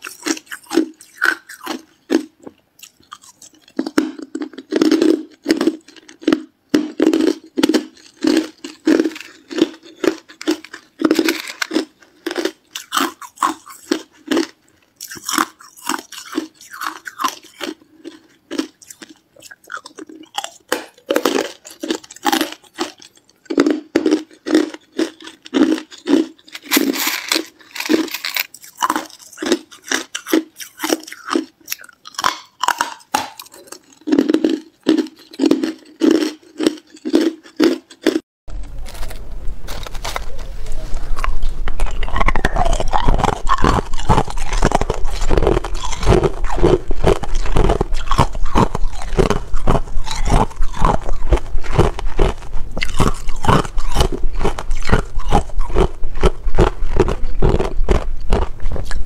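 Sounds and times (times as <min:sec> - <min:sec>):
person crunching ice: 0:00.0 - 0:38.2, 0:38.8 - 0:59.0.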